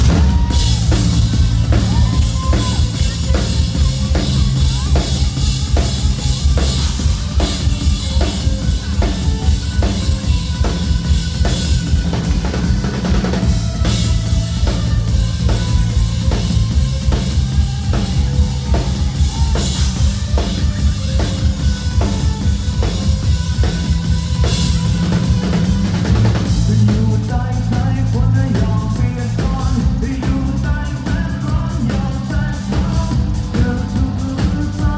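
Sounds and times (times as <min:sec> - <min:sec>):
drum kit beat: 0:00.0 - 0:34.9
heavy bass: 0:00.0 - 0:34.9.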